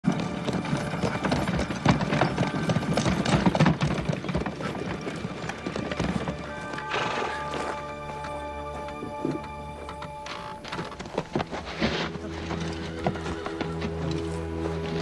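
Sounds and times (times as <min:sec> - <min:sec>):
horse hooves clip-clopping: 0:00.0 - 0:15.0
music: 0:00.0 - 0:15.0.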